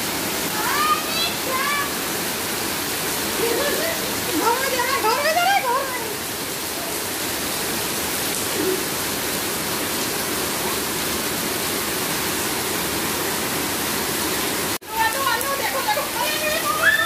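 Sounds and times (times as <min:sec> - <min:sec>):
heavy rain on concrete: 0:00.0 - 0:17.0
runoff streaming from roof: 0:00.0 - 0:17.0.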